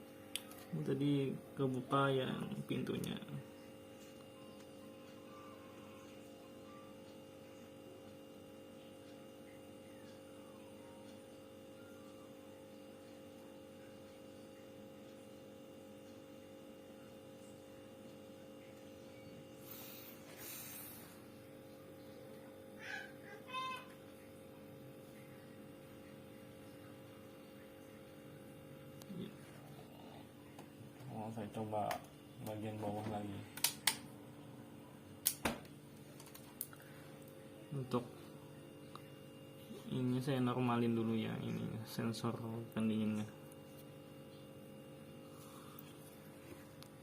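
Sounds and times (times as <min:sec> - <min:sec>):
refrigerator compressor hum: 0:00.0 - 0:47.0.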